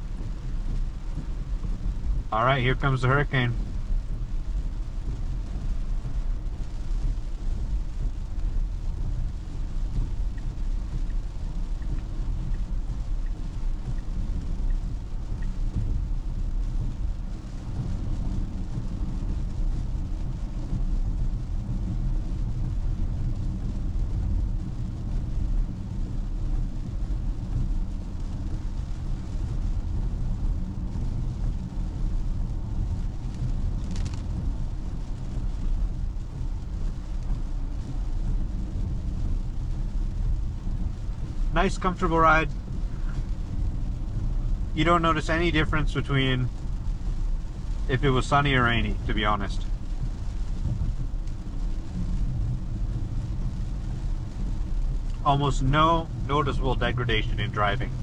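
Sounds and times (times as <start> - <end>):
tyre and road rumble: 0.0 - 58.0.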